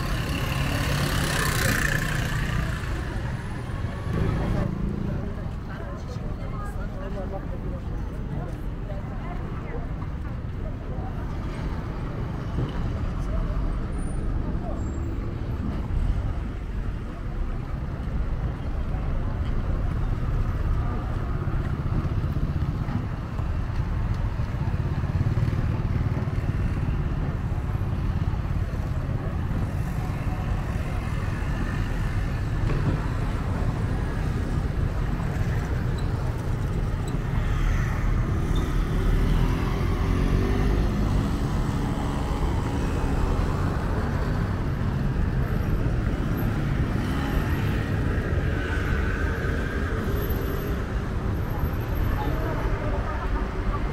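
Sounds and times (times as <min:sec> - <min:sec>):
low rumble of traffic: 0:00.0 - 0:53.9.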